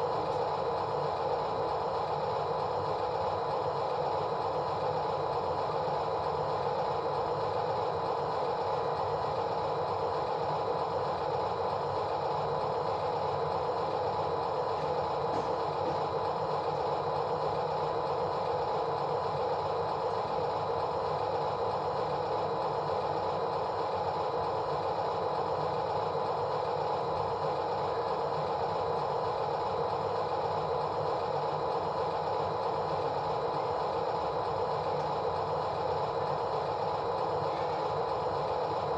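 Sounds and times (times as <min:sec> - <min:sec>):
machine running with steady hum: 0:00.0 - 0:38.9.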